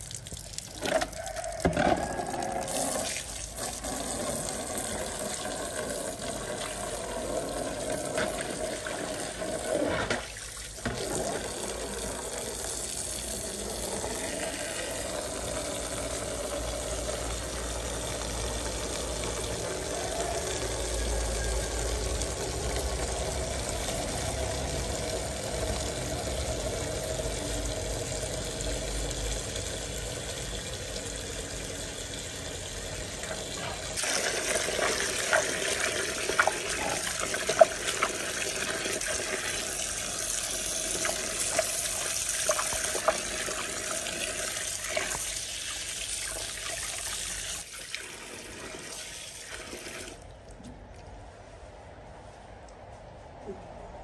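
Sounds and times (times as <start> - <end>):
water pouring into plastic basin: 0.0 - 50.6.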